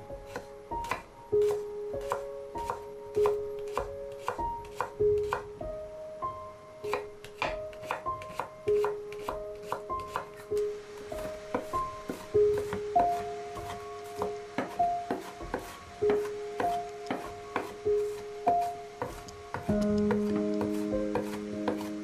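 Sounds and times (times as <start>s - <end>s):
soft piano music: 0.0s - 22.0s
knife chopping on wooden board: 0.3s - 5.5s, 6.9s - 10.4s, 11.5s - 17.8s, 18.5s - 21.9s.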